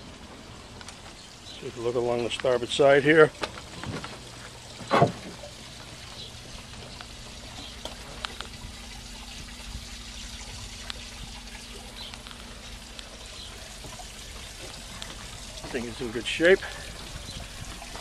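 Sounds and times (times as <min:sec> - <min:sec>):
low steady hum: 0:00.0 - 0:18.0
water pouring and trickling: 0:00.0 - 0:18.0.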